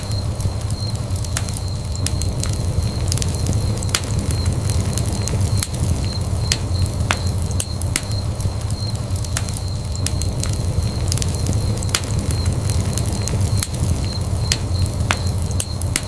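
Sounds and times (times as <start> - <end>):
low rumble of flames: 0.0 - 16.0
wood fire popping: 0.0 - 16.0.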